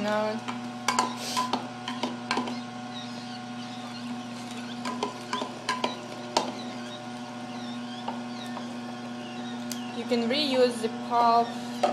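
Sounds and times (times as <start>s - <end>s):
juicer motor hum: 0.0s - 11.9s.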